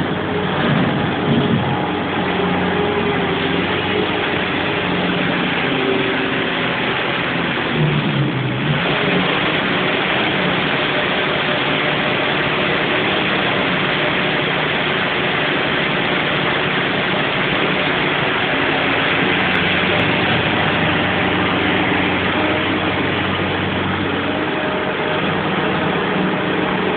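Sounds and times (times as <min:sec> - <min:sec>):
loader engine running: 0:00.0 - 0:26.9.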